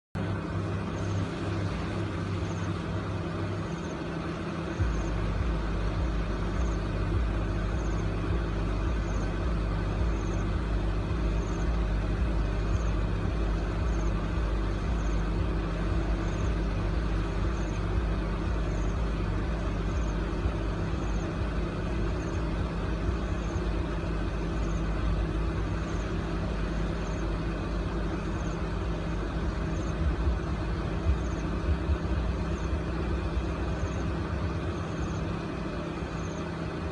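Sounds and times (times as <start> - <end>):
backing music with deep bass: 0.2 - 36.9.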